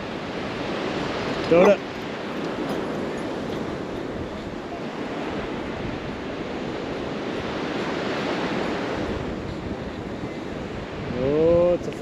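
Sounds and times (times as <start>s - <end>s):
ocean surf rushing: 0.0s - 12.0s
wind on the microphone: 0.0s - 12.0s.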